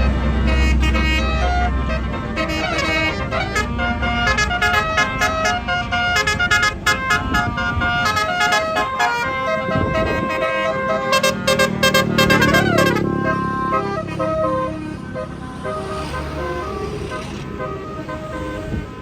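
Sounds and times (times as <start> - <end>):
bus engine rumble: 0.0 - 19.0
multi-tone bus horn melody: 0.0 - 19.0.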